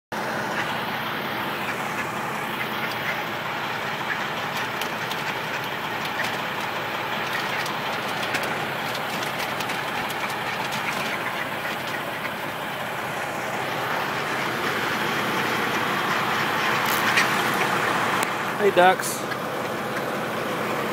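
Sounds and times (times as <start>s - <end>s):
diesel engine idling: 0.1s - 20.9s.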